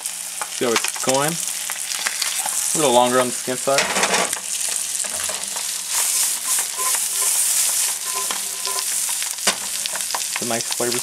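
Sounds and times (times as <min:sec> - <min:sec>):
fish and onions sizzling in pans: 0:00.0 - 0:11.0.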